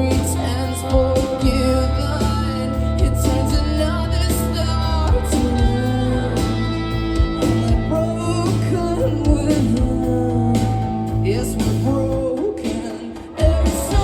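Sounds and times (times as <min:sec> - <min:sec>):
live rock band playing: 0:00.0 - 0:14.0
person singing: 0:00.0 - 0:14.0.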